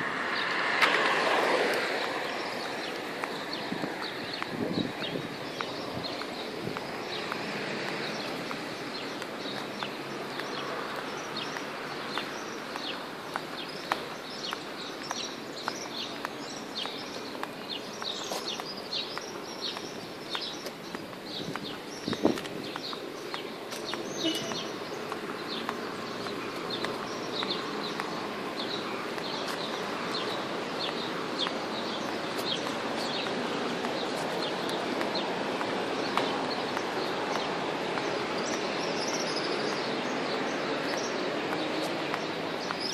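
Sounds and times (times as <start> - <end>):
birds chirping: 0.0 - 42.9
city background hum: 0.0 - 42.9.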